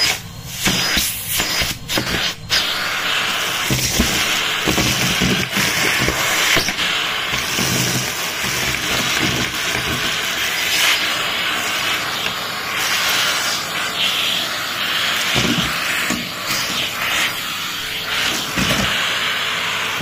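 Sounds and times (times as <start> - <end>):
vacuum cleaner sucking: 0.0 - 20.0.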